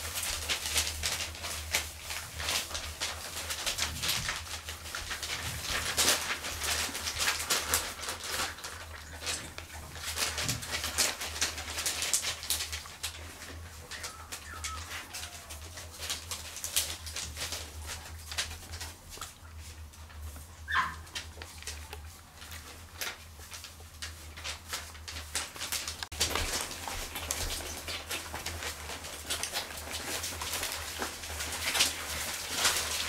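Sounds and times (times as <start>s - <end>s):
crackling paper: 0.0s - 33.0s
paws scrabbling: 0.0s - 33.0s.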